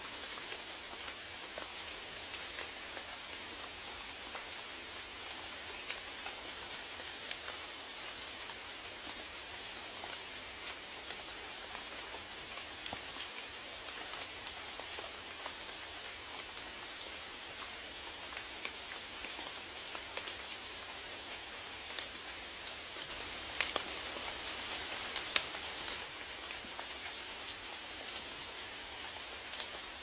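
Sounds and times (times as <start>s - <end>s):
raindrops pattering on a surface: 0.0s - 30.0s
steady rain falling: 0.0s - 30.0s.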